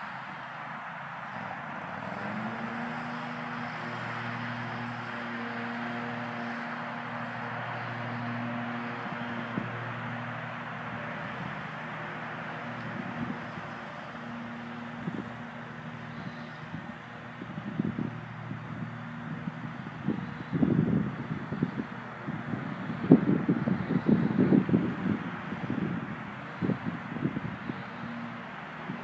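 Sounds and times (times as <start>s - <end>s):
toy helicopter rotor hum: 0.0s - 29.0s.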